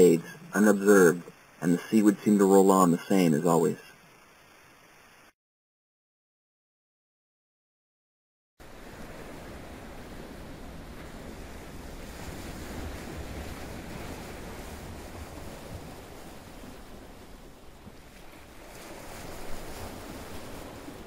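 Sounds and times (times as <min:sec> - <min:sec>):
ocean waves washing ashore: 0:00.0 - 0:05.3, 0:08.6 - 0:21.0.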